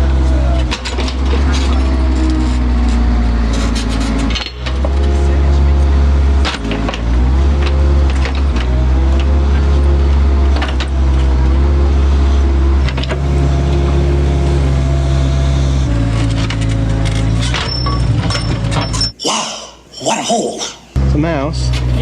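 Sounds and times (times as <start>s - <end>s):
excavator diesel engine under load: 0.0s - 19.1s, 21.0s - 22.0s.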